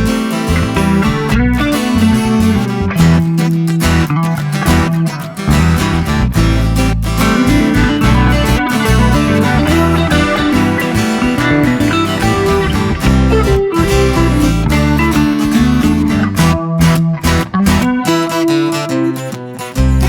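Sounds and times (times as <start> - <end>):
guitar music with bass and beat: 0.0 - 20.0.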